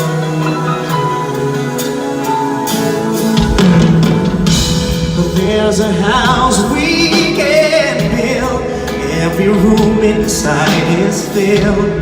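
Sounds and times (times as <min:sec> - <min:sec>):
band accompaniment: 0:00.0 - 0:12.0.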